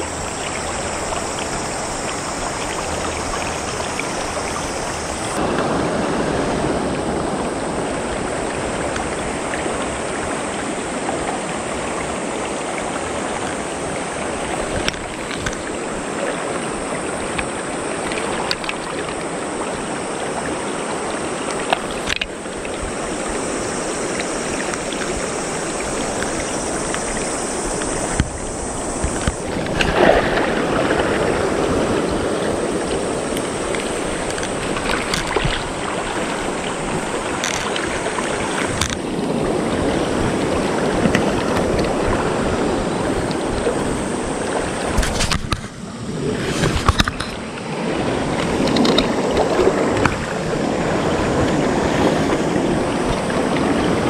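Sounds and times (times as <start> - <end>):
river current rushing: 0.0 - 54.0.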